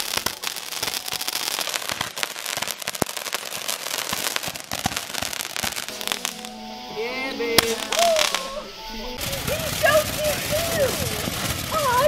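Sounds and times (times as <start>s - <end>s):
fountain firework hissing and crackling: 0.0s - 12.0s.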